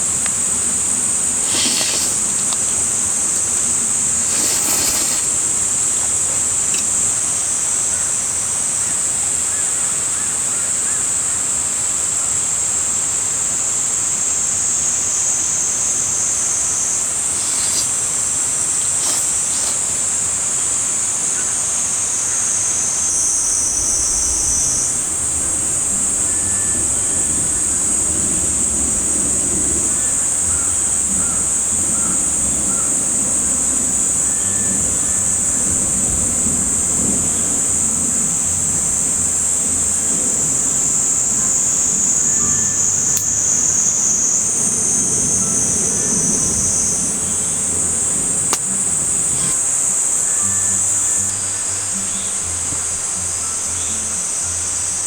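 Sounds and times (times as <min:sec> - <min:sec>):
cicadas calling: 0:00.0 - 0:55.0.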